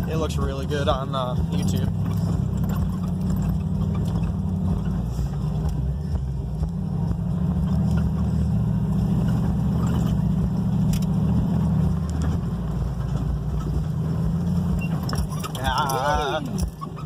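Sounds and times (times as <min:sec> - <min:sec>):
pickup engine droning inside cab: 0:00.0 - 0:17.0.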